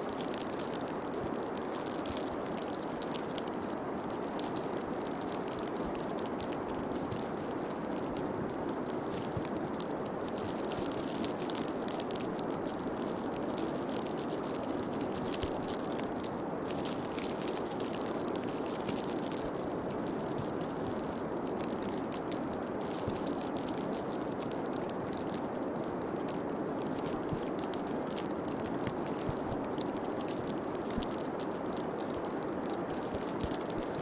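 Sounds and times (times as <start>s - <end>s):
fine irregular crackling: 0.0s - 34.0s.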